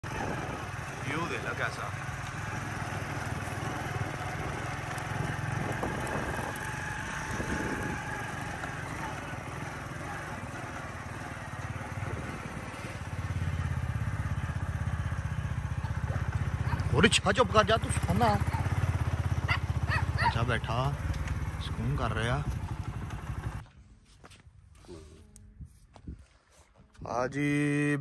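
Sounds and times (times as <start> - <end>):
motorcycle engine running: 0.0 - 23.7.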